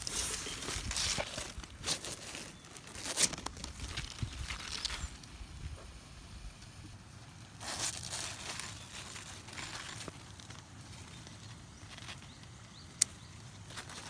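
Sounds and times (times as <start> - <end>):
leaves and vines rustling: 0.0 - 6.0, 7.4 - 14.0.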